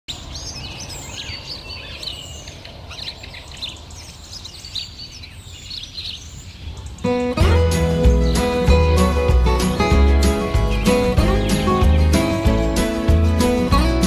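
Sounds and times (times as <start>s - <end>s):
birds chirping and whistling: 0.1s - 14.0s.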